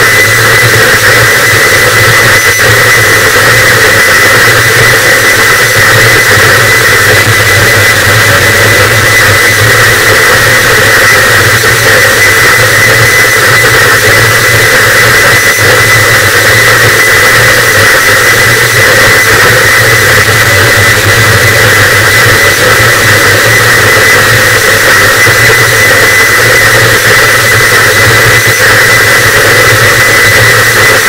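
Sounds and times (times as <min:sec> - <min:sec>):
distorted static noise: 0:00.0 - 0:31.0.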